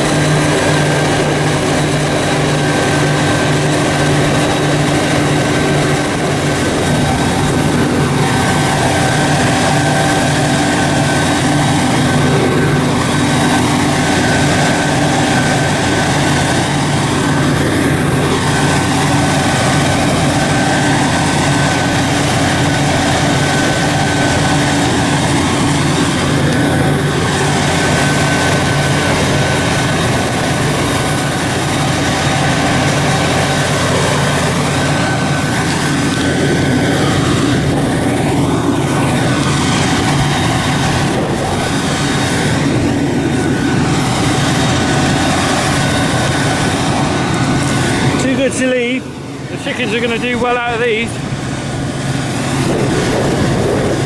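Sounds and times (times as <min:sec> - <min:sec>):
constant high whine: 0:00.0 - 0:54.0
diesel engine drone: 0:00.0 - 0:54.0.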